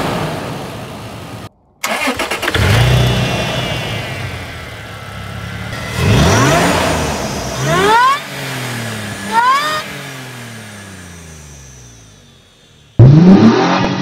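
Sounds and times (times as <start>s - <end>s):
car engine revving: 0.0s - 14.0s
supercharger whine: 0.0s - 14.0s.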